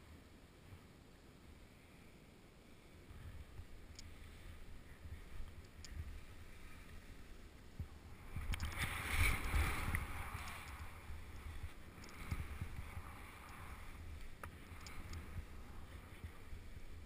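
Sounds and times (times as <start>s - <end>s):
wind on microphone: 3.1s - 17.0s
skis scraping over snow: 3.2s - 17.0s.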